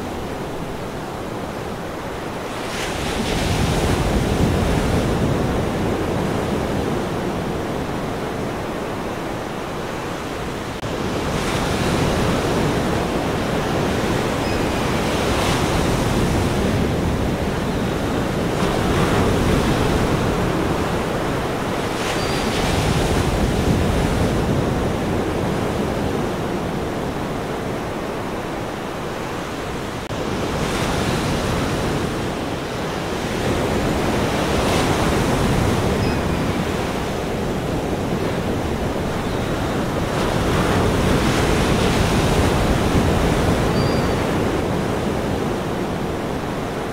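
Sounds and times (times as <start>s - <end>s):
ocean surf: 0.0s - 46.9s.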